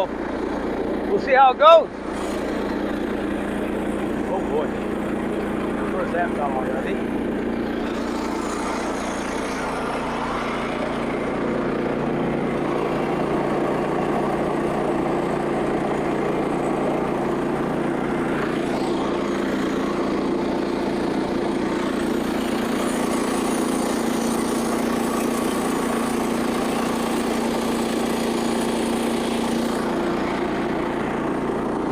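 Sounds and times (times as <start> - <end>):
band saw blade cutting log: 0.0 - 31.9
small gas engine running: 0.0 - 31.9.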